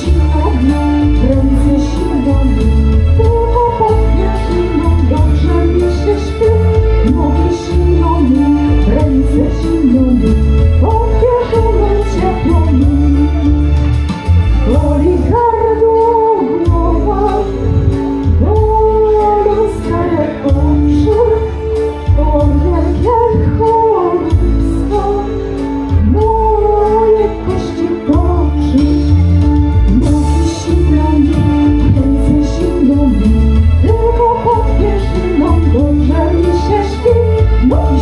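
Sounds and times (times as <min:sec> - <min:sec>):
woman singing: 0:00.0 - 0:13.9, 0:14.6 - 0:38.0
music with heavy bass: 0:00.0 - 0:38.0.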